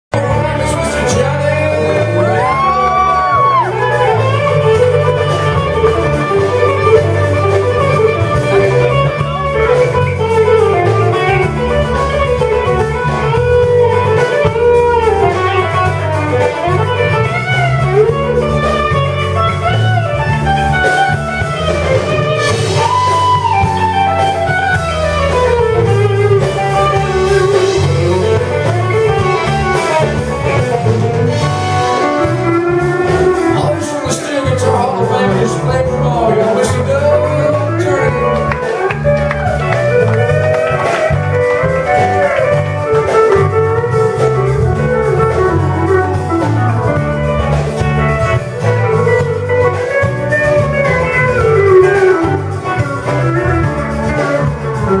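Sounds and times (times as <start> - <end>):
electric guitar lead runs: 0.1 - 55.0.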